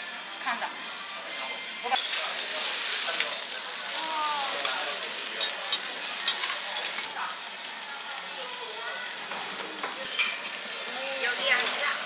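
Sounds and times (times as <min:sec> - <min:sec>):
food sizzling on a griddle: 0:01.9 - 0:12.0.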